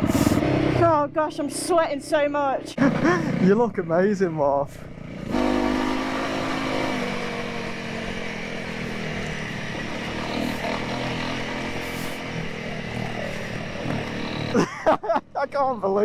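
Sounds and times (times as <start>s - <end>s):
motorcycle engines running at low revs: 0.0s - 16.0s.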